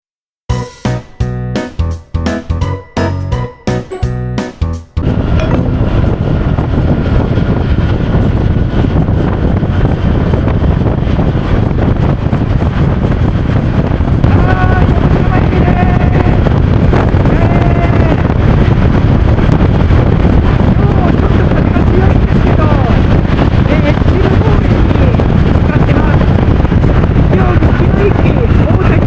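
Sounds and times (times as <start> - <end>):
wind buffeting microphone: 4.9 - 29.0.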